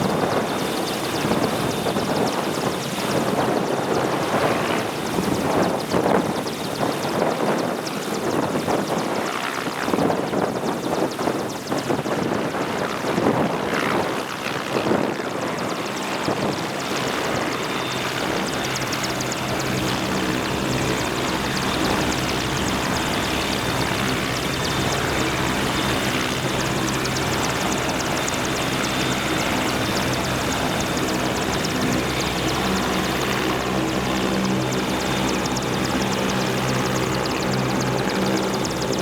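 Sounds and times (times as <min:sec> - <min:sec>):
helicopter rotor and engines: 0:00.0 - 0:39.0.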